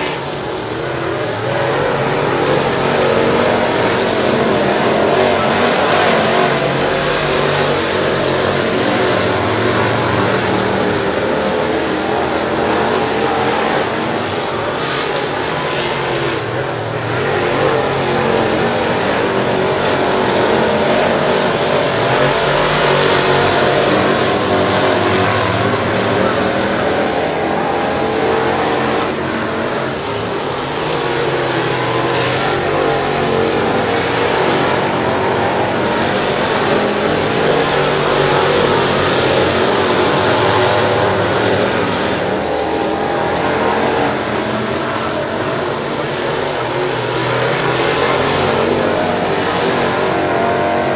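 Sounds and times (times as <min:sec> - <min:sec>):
drone of race car engines: 0:00.0 - 0:50.9
race cars passing: 0:00.0 - 0:50.9.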